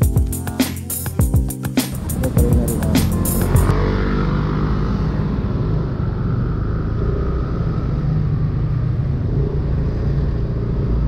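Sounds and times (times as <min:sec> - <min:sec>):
motorcycle engine low rumble: 0:01.2 - 0:11.0.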